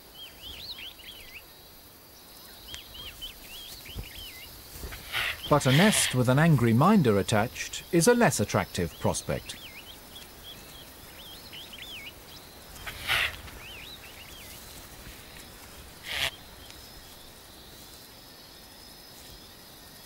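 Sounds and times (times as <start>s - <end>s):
high insect drone: 0.0s - 20.0s
small birds chirping: 0.0s - 20.0s.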